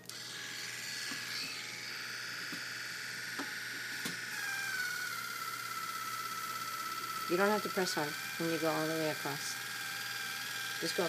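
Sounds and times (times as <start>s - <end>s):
electric toothbrush whining: 0.0s - 11.0s.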